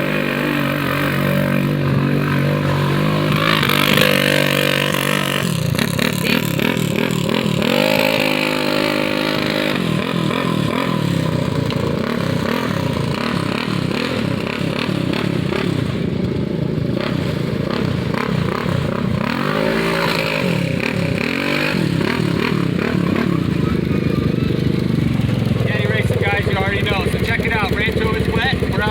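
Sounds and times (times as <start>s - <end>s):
atv engines revving: 0.0s - 28.9s.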